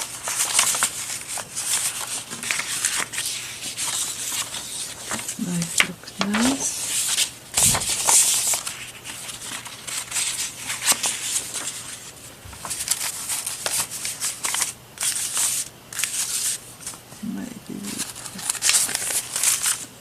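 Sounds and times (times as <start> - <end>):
paper sheets rustling: 0.0 - 17.0, 17.7 - 20.0.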